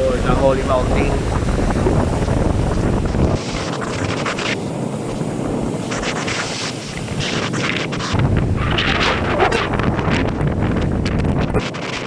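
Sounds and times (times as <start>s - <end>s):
waves rushing: 0.0s - 12.0s
wind buffeting microphone: 0.0s - 12.0s.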